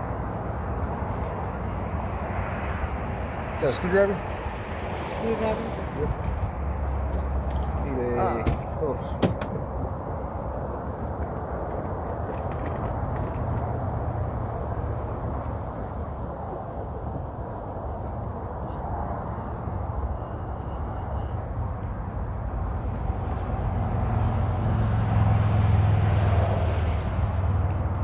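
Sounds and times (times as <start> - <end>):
insect chorus trilling: 0.0 - 28.0.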